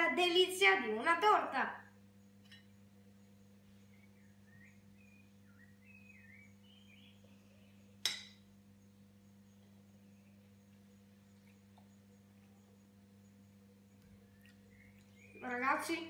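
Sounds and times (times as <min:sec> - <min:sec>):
faint bird song: 0:00.0 - 0:16.0
low electrical hum: 0:00.0 - 0:16.0.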